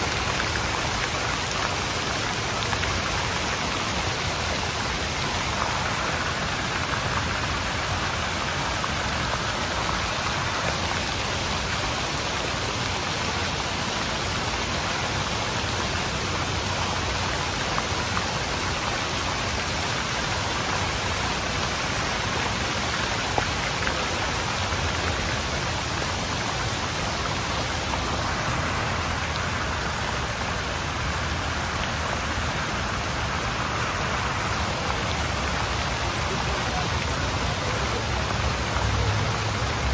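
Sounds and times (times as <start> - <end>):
fountain water jets splashing: 0.0 - 39.9.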